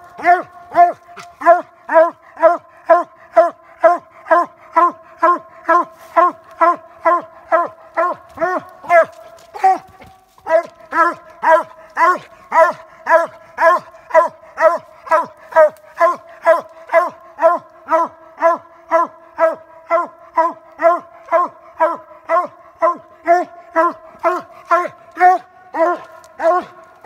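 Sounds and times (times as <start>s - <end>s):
hound barking steadily: 0.0s - 27.0s.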